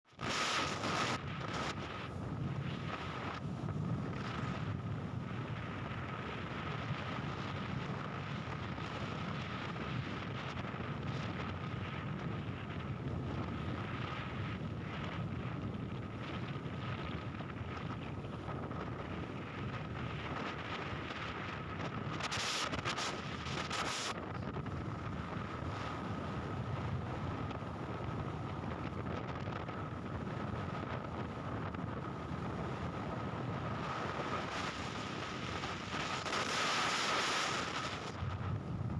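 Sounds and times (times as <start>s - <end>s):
wind buffeting microphone: 0.2s - 38.9s.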